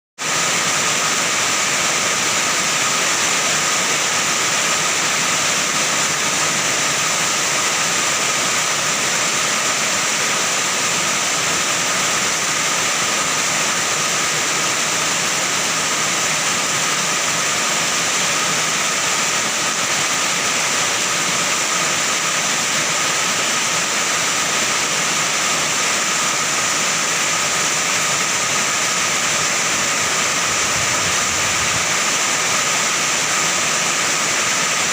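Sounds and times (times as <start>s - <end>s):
heavy rain on a metal roof: 0.2s - 34.9s.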